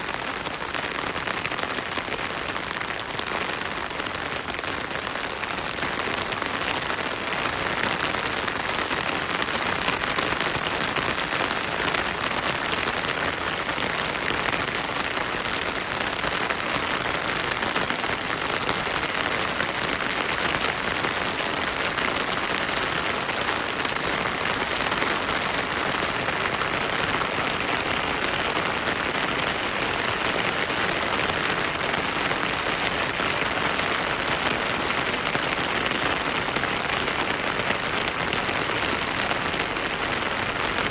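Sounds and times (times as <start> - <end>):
heavy rain in forest: 0.0 - 40.9.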